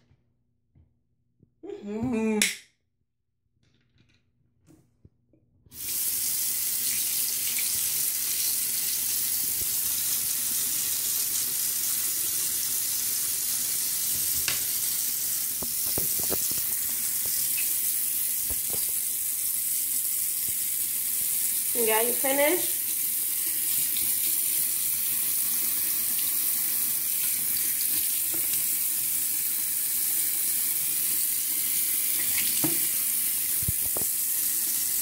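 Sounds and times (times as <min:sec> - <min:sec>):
water running into basin: 0:05.8 - 0:35.0.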